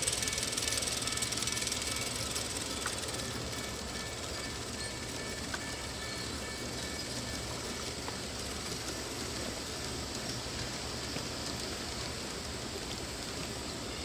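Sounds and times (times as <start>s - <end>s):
model train rumbling on track: 0.0s - 14.0s.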